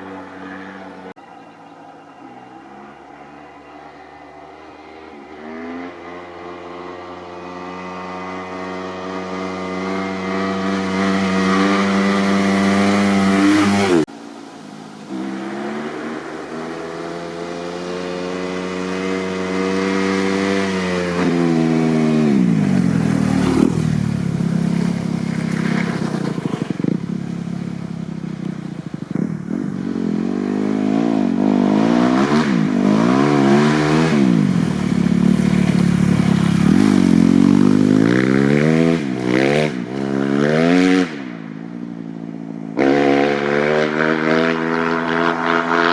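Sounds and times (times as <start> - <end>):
motorcycle engine revving: 2.8 - 14.1, 15.1 - 42.1, 42.7 - 45.9.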